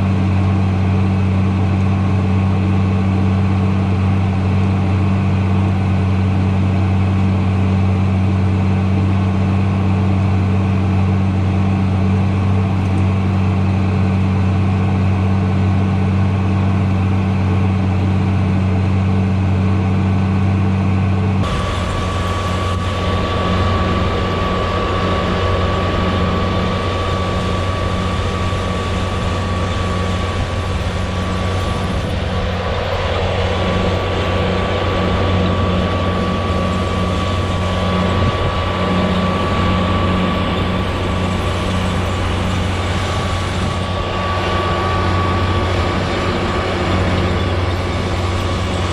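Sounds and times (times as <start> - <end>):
engine with thin whine: 0.0 - 48.9
tractor engine running: 0.0 - 48.9.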